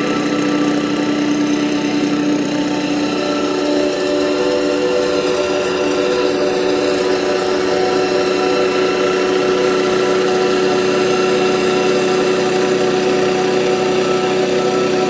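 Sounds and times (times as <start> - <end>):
harvester engine running: 0.0 - 15.0.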